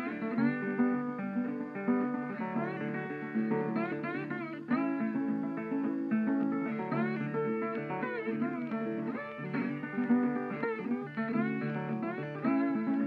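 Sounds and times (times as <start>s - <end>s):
guitar plucked sliding notes: 0.0s - 13.0s.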